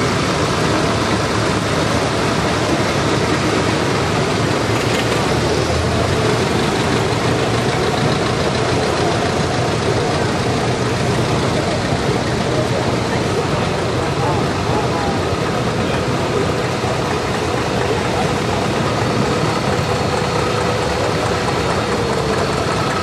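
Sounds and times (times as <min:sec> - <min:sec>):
old tractor engines running: 0:00.0 - 0:23.0.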